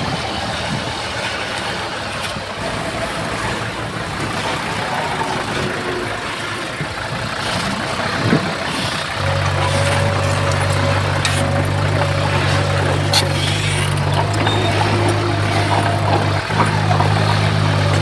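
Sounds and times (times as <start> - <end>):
heavy machinery diesel engine: 0.0 - 18.0.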